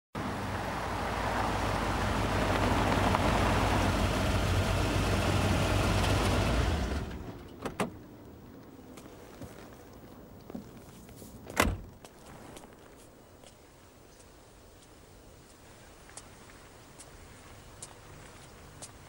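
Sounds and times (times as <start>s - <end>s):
car engine and tyres: 0.1s - 13.2s, 14.2s - 19.0s.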